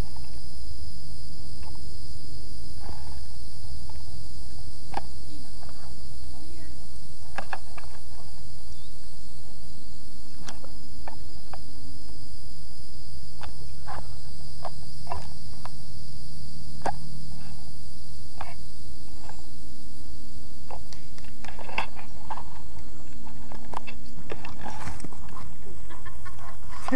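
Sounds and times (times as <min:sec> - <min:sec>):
insect chirps and clicks: 0:00.0 - 0:26.9
insects droning: 0:00.0 - 0:26.9.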